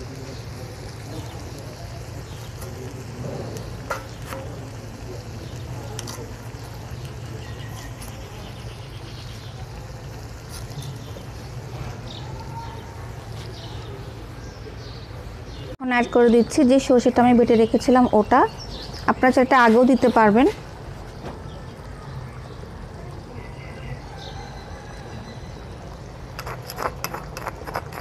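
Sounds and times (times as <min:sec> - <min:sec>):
curry simmering in a pot: 0:00.0 - 0:15.7, 0:17.5 - 0:28.0
low background noise: 0:00.0 - 0:28.0.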